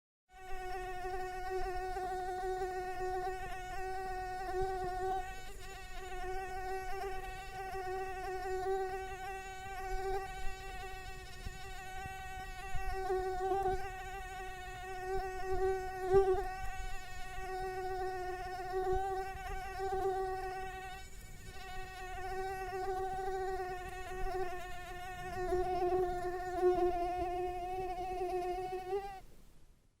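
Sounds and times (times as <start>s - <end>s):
mosquito buzzing: 0.3s - 29.2s.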